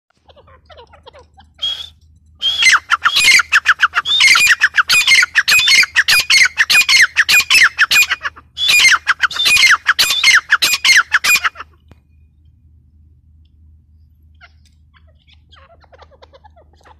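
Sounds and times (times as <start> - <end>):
francolin calling: 0.2 - 12.4, 14.0 - 16.9.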